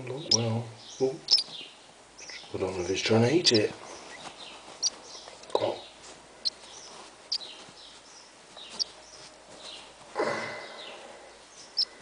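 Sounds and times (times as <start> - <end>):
nestling bird chirping: 0.0 - 10.0, 10.6 - 12.0.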